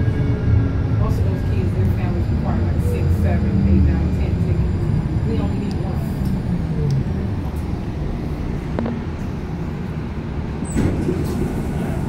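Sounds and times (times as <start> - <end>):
low rumble inside tram: 0.0 - 12.0.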